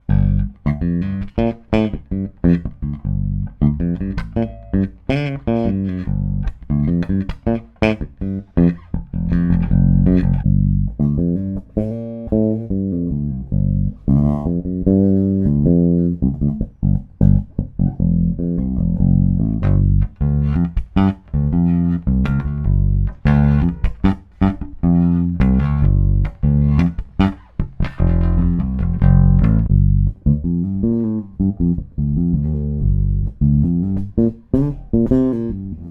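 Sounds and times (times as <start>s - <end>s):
electric bass played fingerstyle: 0.0s - 35.9s.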